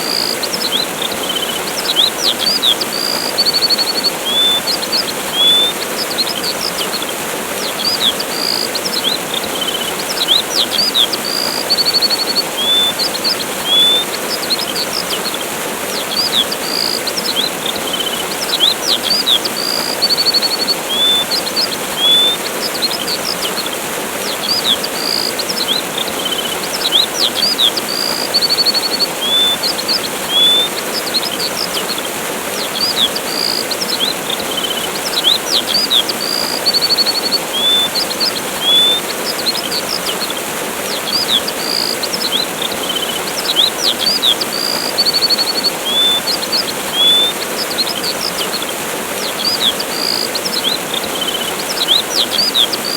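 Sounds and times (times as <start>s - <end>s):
small birds chirping: 0.0s - 52.9s
waterfall rushing: 0.0s - 52.9s.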